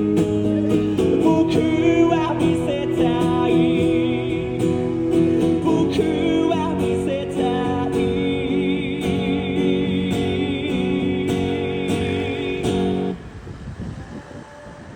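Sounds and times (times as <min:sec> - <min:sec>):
man singing long notes: 0:00.0 - 0:13.2
acoustic guitar: 0:00.0 - 0:13.3.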